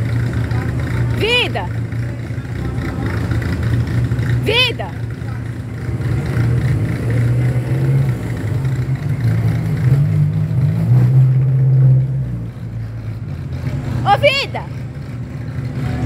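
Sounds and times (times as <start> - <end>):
car engine rumbling at low revs: 0.0 - 16.0.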